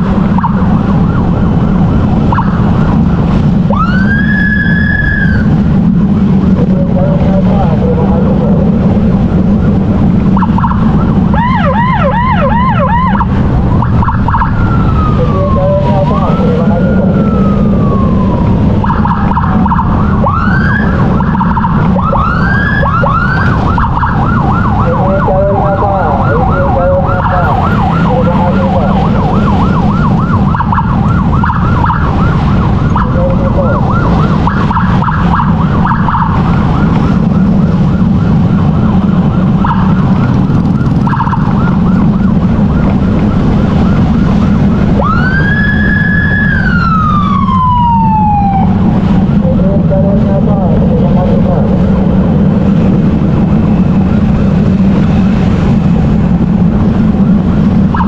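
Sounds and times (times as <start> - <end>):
electronic emergency siren: 0.0 - 58.0
motorcycle rumble: 0.0 - 58.0.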